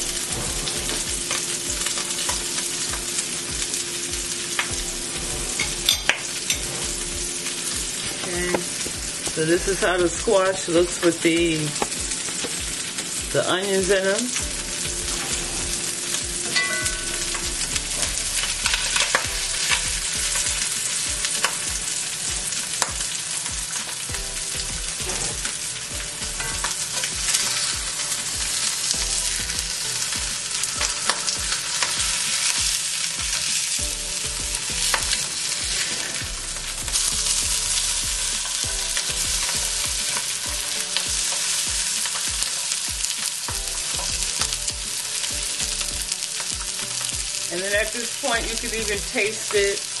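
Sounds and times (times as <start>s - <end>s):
fish sizzling in a frying pan: 0.0s - 50.0s.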